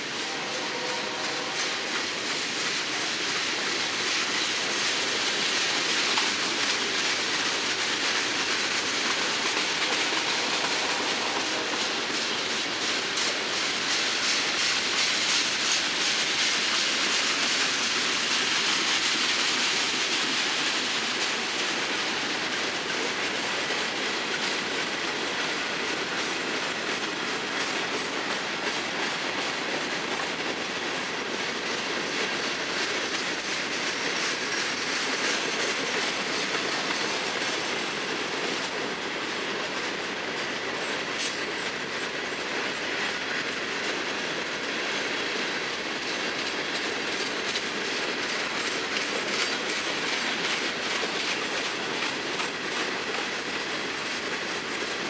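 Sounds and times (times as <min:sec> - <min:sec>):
freight train wheels rumbling: 0:00.0 - 0:55.0
wheels clickety-clack on rail joints: 0:00.0 - 0:55.0.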